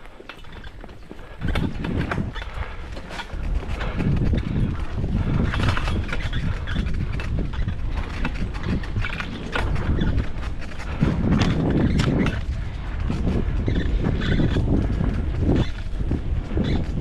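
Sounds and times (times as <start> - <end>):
knocks and crackles of movement: 0.0 - 17.0
wind rumble on microphone: 0.0 - 17.0.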